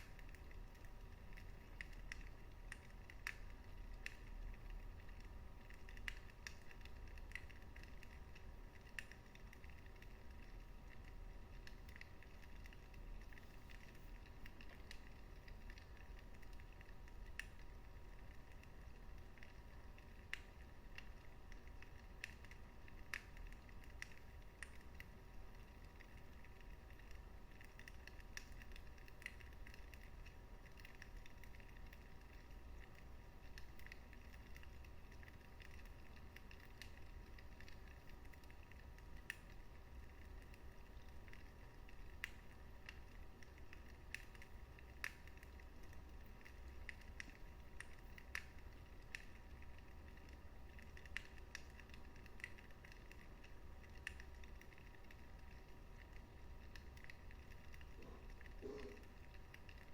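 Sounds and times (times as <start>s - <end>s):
fire crackling and popping: 0.0s - 59.9s
low rumble of fire: 0.0s - 59.9s.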